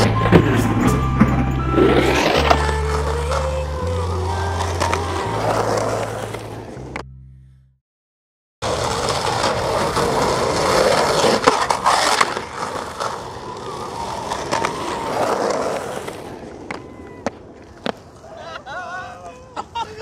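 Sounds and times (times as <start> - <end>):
skateboard clacks: 0.0 - 7.0, 8.6 - 19.4
skateboard wheels rolling on concrete: 0.0 - 7.0, 8.6 - 20.0.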